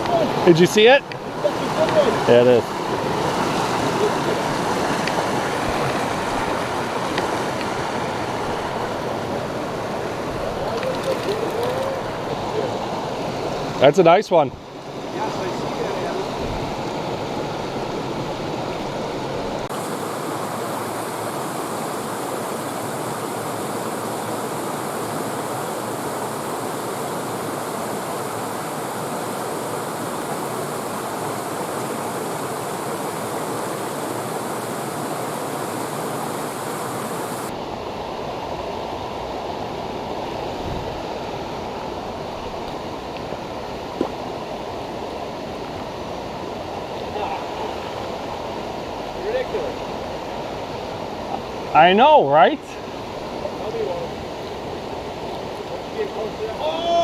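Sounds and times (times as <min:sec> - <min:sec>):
brook water flowing: 0:00.0 - 0:57.0.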